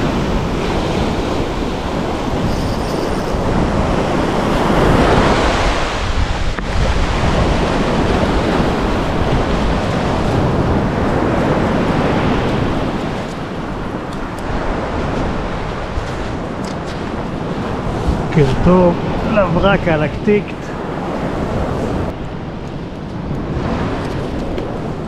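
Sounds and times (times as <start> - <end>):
surf washing over sand: 0.0 - 25.0
wind buffeting microphone: 0.0 - 25.0.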